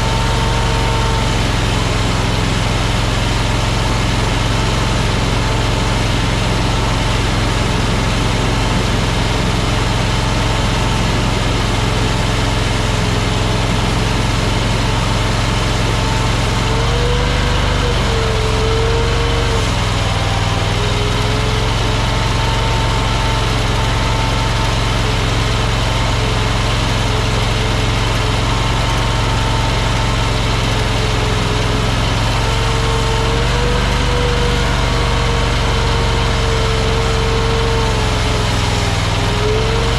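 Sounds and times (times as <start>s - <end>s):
mini skid steer engine running: 0.0s - 39.9s.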